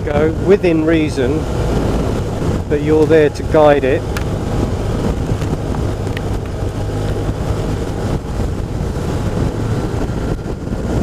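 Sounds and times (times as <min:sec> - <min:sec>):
motorcycle engine humming: 0:00.0 - 0:11.0
wind rush on microphone: 0:00.0 - 0:11.0.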